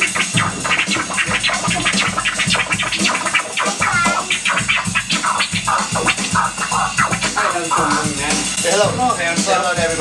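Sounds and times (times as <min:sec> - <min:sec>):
sample sweeping in pitch: 0:00.0 - 0:08.6
backing beat: 0:00.0 - 0:10.0
vinyl record scratching: 0:00.0 - 0:10.0.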